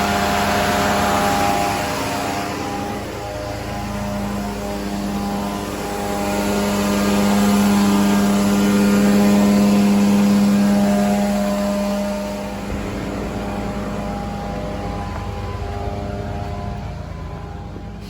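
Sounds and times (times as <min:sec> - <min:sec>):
carpet cleaning machine humming: 0:00.0 - 0:18.0.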